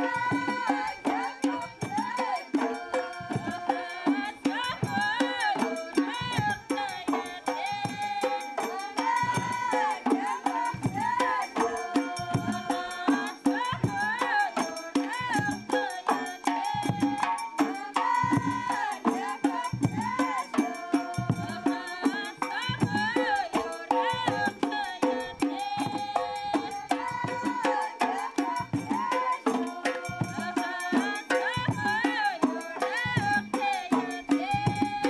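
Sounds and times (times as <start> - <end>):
percussion beat: 0.0 - 35.0.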